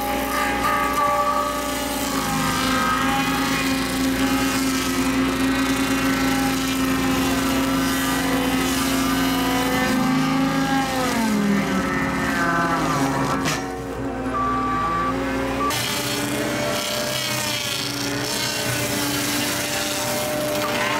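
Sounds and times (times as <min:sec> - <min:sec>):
tree saw cutting trunk: 0:00.0 - 0:20.9.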